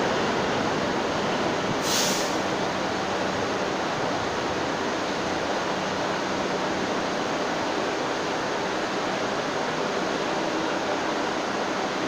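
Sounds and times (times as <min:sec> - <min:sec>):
faint low hum of subway train: 0:00.0 - 0:12.0.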